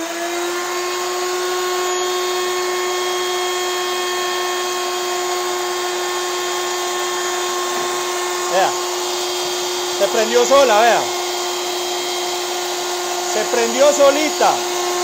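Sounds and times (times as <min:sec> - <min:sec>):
router high whine: 0:00.0 - 0:15.0
shop vacuum rushing: 0:00.0 - 0:15.0.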